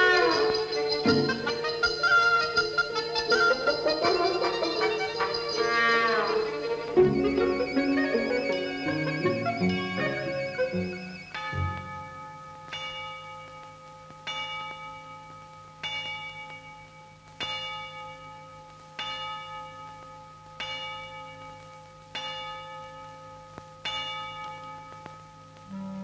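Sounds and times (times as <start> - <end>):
tower clock bell striking: 0.0 - 25.6.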